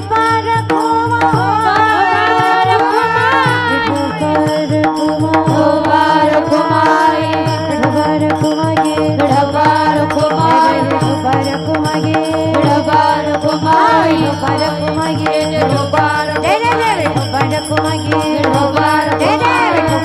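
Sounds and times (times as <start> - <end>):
hand drum beat: 0.0 - 20.0
woman singing devotional line: 0.0 - 20.0.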